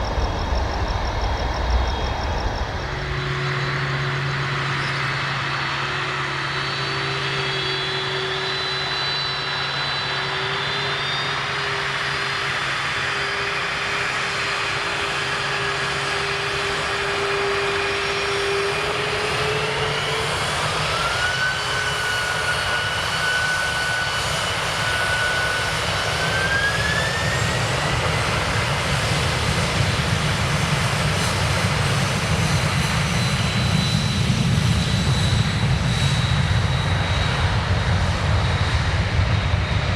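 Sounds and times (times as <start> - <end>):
engine whine rising: 0.0 - 39.9
jet engines rumbling: 0.0 - 39.9.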